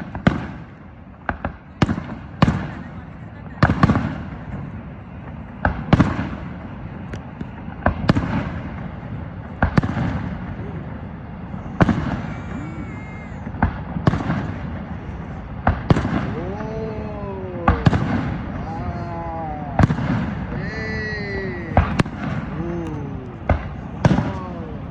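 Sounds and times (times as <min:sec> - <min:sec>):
fireworks bangs with echo: 0:00.0 - 0:24.9
steady low rumble: 0:00.0 - 0:24.9.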